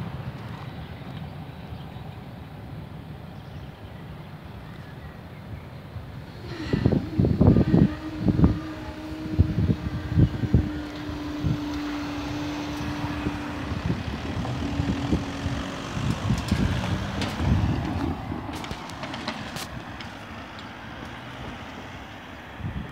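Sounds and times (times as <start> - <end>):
distant diesel locomotive humming: 0.0 - 22.9
wind buffeting microphone: 0.0 - 22.9.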